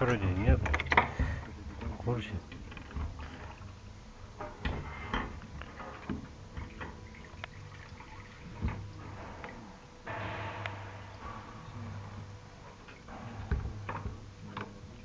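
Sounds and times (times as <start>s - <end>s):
light clicks and knocks: 0.0s - 7.7s, 8.4s - 15.0s
faint steady hum: 0.0s - 15.0s.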